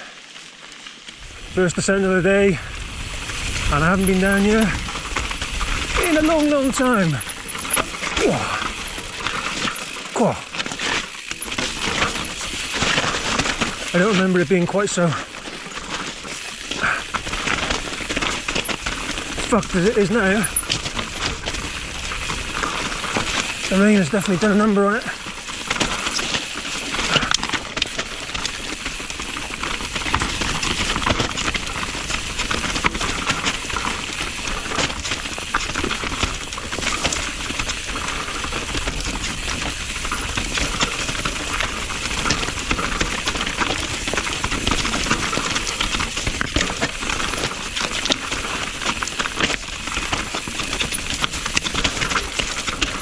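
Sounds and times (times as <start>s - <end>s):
mountain bike rattling: 0.0s - 53.0s
wheels knocking on roots: 0.0s - 53.0s.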